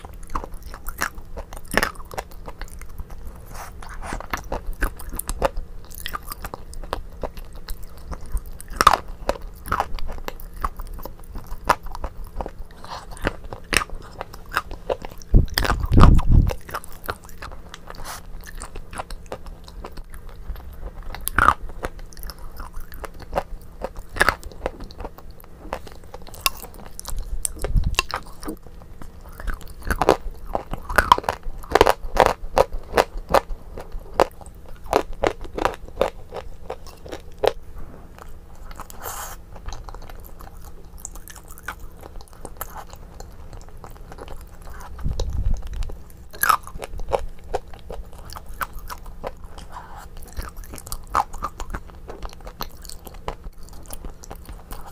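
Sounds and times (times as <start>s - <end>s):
wet chewing: 0.0s - 54.9s.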